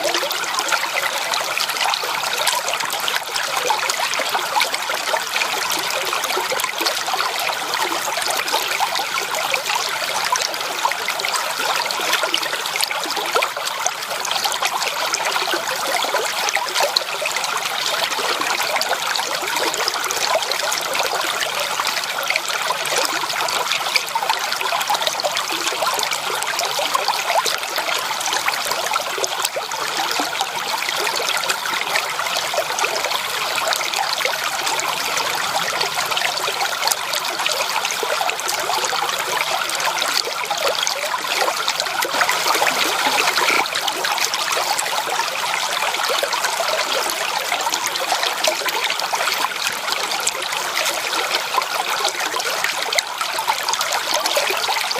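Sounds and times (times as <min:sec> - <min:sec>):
stream water trickling: 0:00.0 - 0:54.9.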